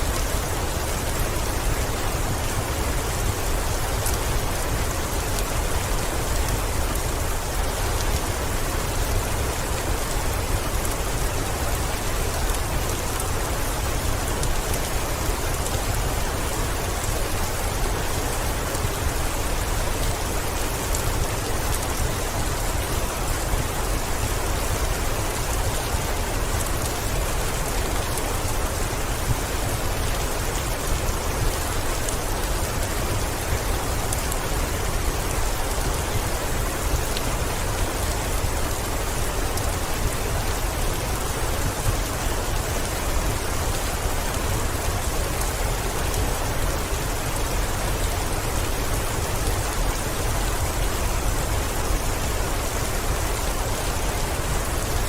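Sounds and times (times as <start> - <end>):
heavy rain on a window: 0.0 - 55.0.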